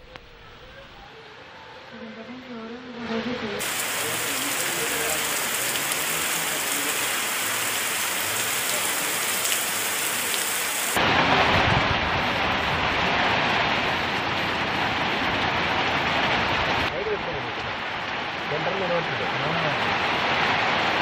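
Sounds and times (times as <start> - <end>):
heavy rain pouring: 3.6 - 21.0.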